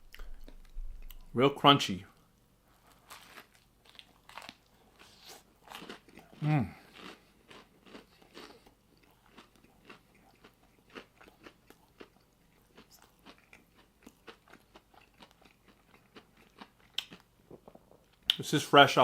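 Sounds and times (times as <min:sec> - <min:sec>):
chewing crunchy food: 0:00.1 - 0:01.3, 0:02.2 - 0:18.4.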